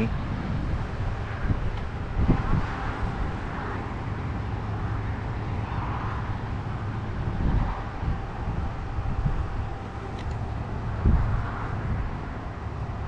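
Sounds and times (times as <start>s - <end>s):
vehicle rumble: 0.0s - 13.0s
wind noise: 0.0s - 13.0s.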